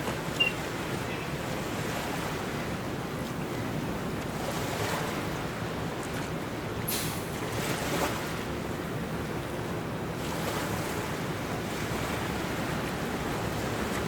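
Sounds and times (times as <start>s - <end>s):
waves washing: 0.0s - 14.0s.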